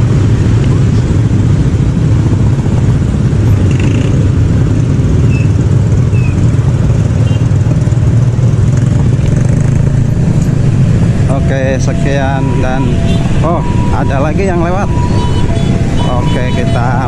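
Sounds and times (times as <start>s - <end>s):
motorcycle engines idling and pulling away: 0.0s - 17.0s.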